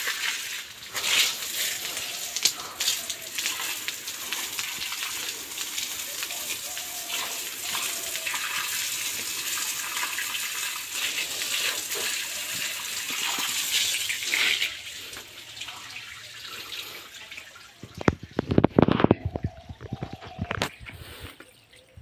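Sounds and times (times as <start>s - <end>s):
water pouring and splashing on floor: 0.0s - 22.0s.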